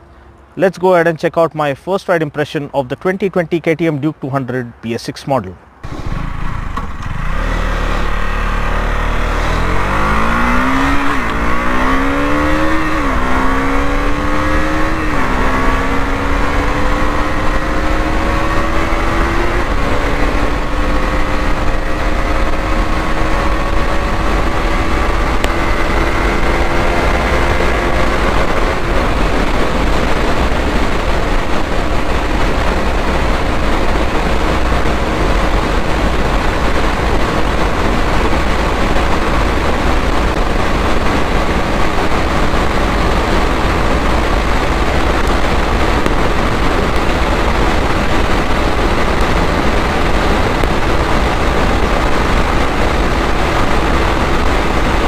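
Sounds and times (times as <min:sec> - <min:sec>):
motorcycle engine accelerating: 0:05.8 - 0:55.0
wind rush on microphone: 0:05.8 - 0:55.0.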